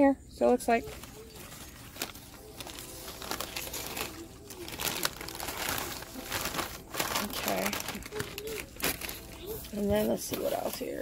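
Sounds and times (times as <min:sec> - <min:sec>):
plastic bag crinkling: 0:00.7 - 0:11.0.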